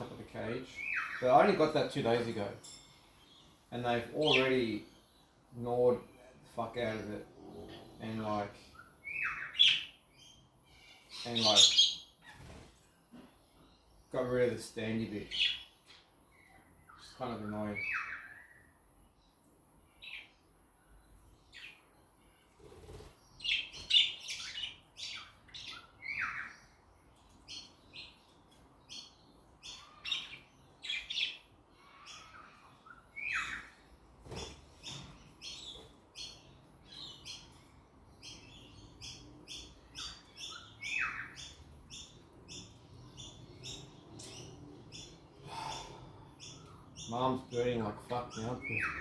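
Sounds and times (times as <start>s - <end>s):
budgerigars chirping: 0.0s - 12.7s, 14.1s - 18.7s, 22.6s - 28.3s, 28.9s - 49.0s.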